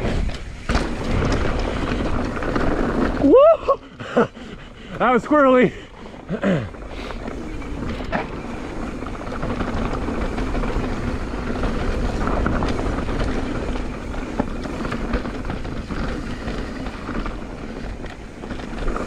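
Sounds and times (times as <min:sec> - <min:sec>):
bike clicks and rattles: 0:00.0 - 0:19.0
bike tyres rolling on dirt: 0:00.0 - 0:19.0
wind rushing over microphone: 0:00.0 - 0:19.0.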